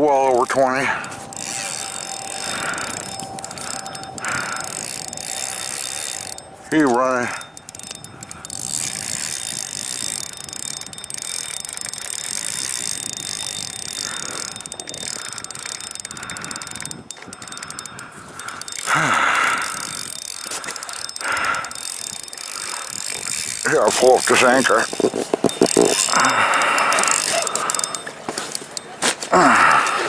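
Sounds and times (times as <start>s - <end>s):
fishing reel drag clicking: 0.0s - 30.0s.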